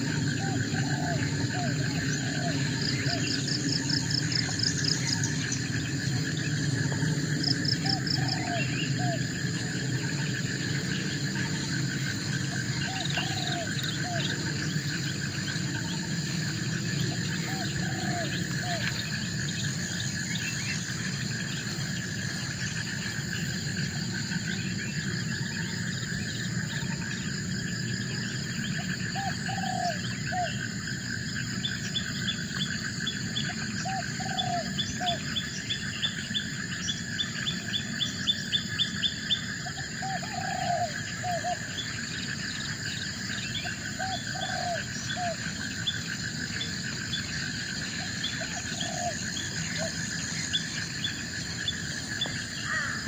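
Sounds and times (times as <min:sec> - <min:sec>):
rapid ticking calls: 0:00.0 - 0:27.0, 0:28.1 - 0:53.0
insects buzzing: 0:00.0 - 0:53.0.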